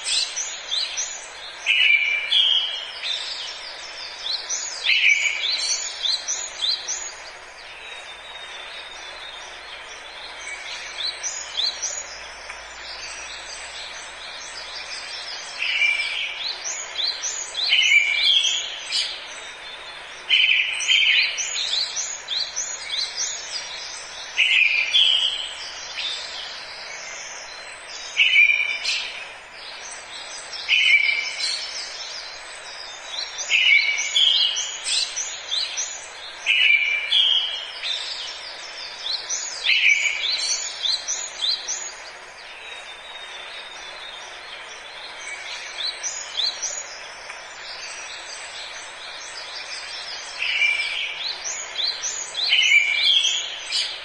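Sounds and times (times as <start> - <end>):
forest ambience hiss: 0.0 - 54.0
songbird singing: 0.0 - 54.0.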